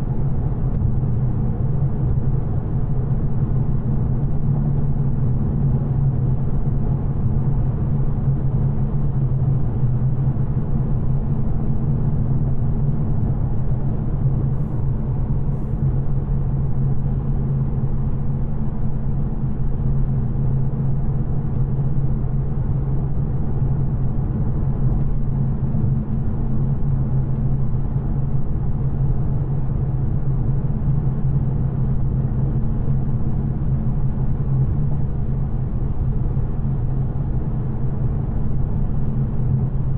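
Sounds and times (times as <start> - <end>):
car engine cruising drone: 0.0 - 39.9
road rumble: 0.0 - 39.9.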